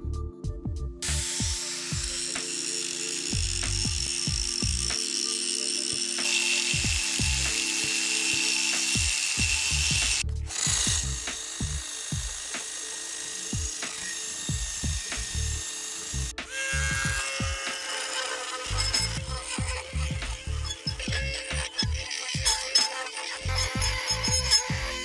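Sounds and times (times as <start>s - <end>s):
background music with steady beat: 0.0s - 25.0s
angle grinder on steel: 1.0s - 25.0s
drill spinning wire brush wheel: 1.0s - 25.0s.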